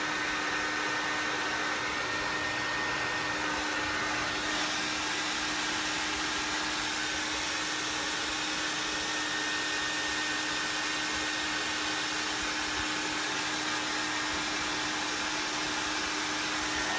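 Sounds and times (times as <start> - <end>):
hair dryer running: 0.0 - 16.9.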